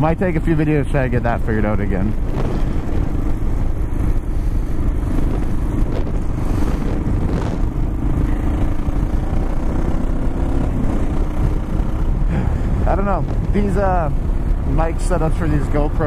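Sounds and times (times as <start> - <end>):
motorcycle engine cruising: 0.0 - 16.0
wind rumble on microphone: 0.0 - 16.0.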